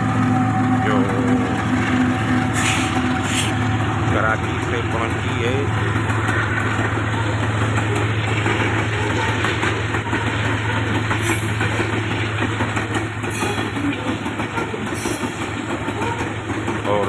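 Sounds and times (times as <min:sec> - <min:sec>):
diesel locomotive humming: 0:00.0 - 0:17.0
train wheels clicking: 0:00.0 - 0:17.0.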